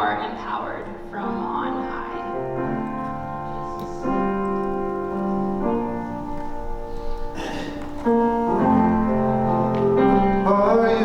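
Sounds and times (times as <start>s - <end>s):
keyboard playing slow held chords: 0.0s - 11.0s.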